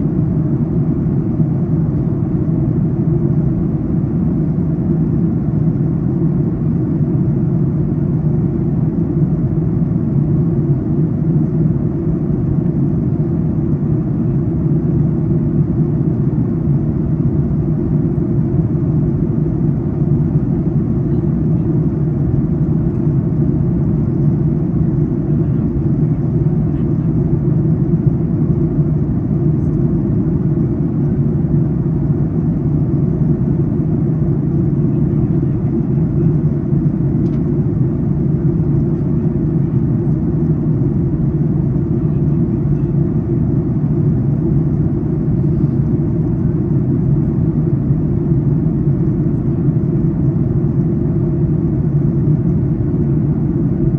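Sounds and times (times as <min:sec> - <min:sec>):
airplane cabin drone: 0:00.0 - 0:53.9.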